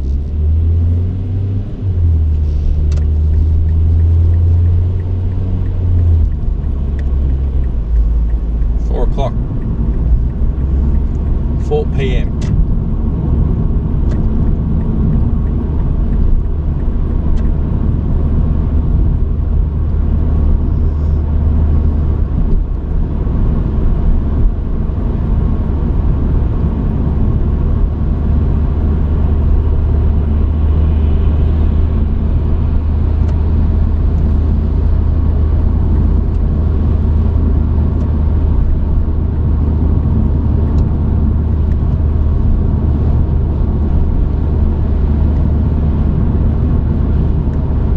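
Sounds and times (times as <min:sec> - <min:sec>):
truck engine and road rumble: 0:00.0 - 0:47.9.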